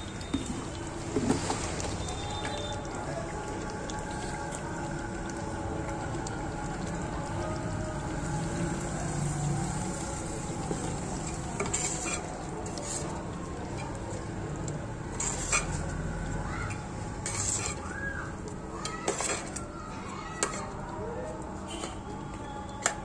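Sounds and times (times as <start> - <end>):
frying sizzle: 0.0 - 20.6
ladle stirring thick curry: 0.1 - 23.0.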